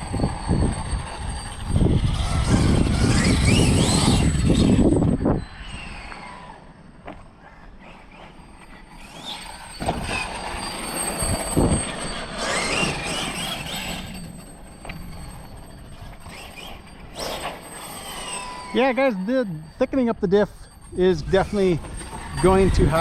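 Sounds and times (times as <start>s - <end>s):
rc truck motor whining: 0.0s - 23.0s.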